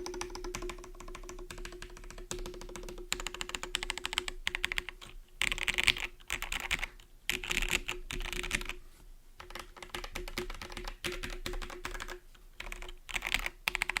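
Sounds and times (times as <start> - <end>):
mechanical keyboard typing: 0.0 - 8.8, 9.4 - 14.0.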